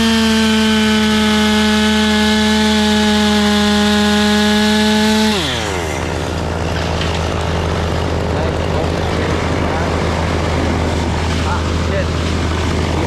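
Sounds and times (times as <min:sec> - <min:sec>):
chainsaw running: 0:00.0 - 0:13.0
low engine hum: 0:00.0 - 0:13.0.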